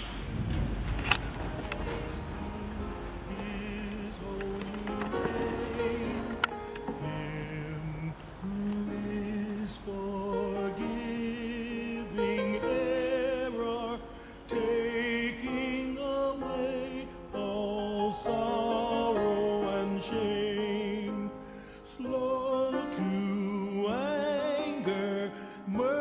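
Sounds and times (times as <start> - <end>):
slow gentle music: 0.0 - 26.0.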